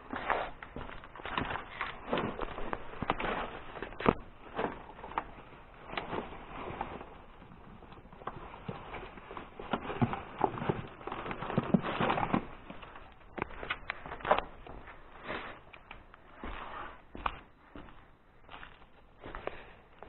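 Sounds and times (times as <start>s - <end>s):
clicks and scuffs: 0.0s - 20.0s
footsteps crunching on gritty floor: 0.0s - 20.0s.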